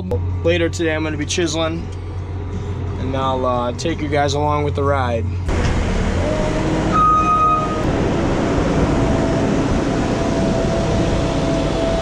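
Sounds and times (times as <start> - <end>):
skid steer loader engine: 0.0 - 12.0.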